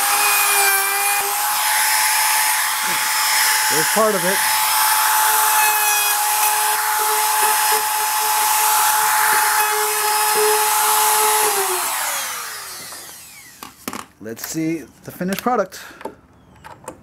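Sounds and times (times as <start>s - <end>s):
router cutting wood: 0.0s - 13.8s.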